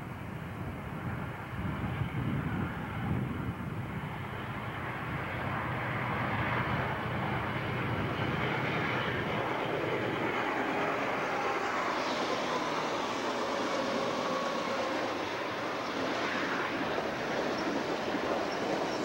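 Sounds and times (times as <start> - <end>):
diesel locomotives passing: 0.1 - 19.0.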